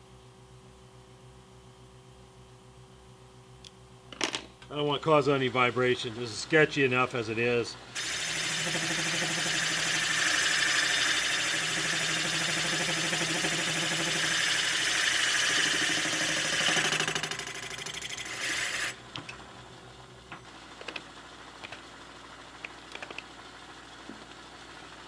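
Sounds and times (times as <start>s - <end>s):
milling machine spindle hum: 4.8s - 25.0s.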